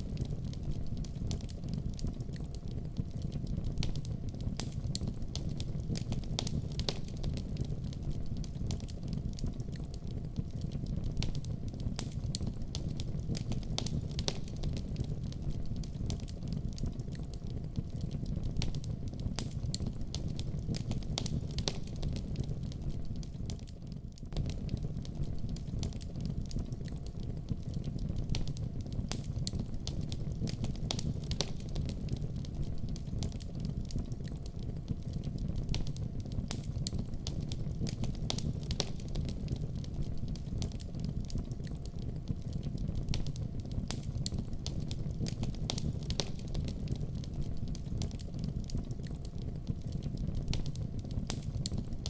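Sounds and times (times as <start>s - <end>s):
fire crackles and pops: 0.0s - 52.0s
wood fire rumbling: 0.0s - 52.0s.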